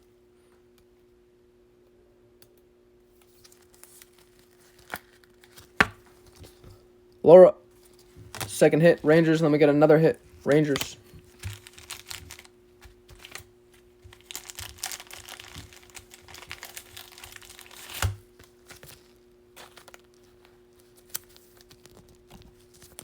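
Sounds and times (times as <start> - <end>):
faint steady hum: 0.0 - 23.0
card packs rustling and crinkling: 3.2 - 6.8, 7.8 - 23.0.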